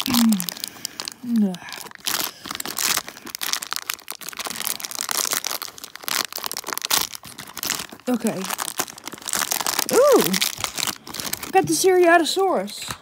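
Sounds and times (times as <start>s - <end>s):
foil wrapper crinkling: 0.0s - 12.6s.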